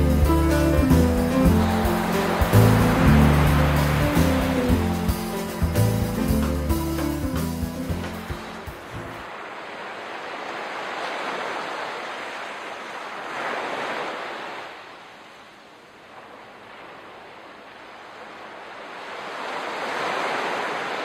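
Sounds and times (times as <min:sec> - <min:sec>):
sea waves washing in: 0:00.0 - 0:21.0.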